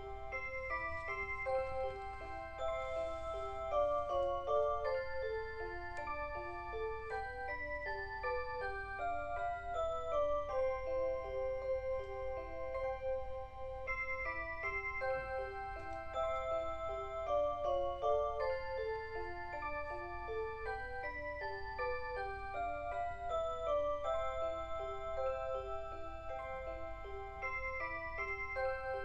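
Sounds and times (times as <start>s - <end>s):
alarm clock electronic melody: 0.0s - 29.0s.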